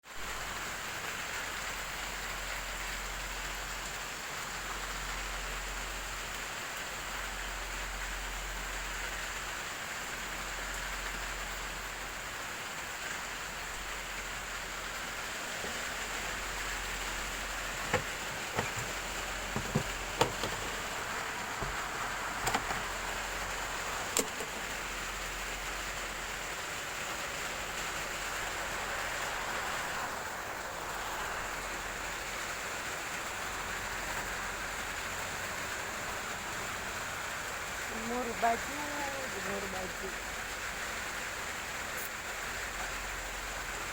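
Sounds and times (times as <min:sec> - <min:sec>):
steady rain hiss: 0:00.0 - 0:43.9.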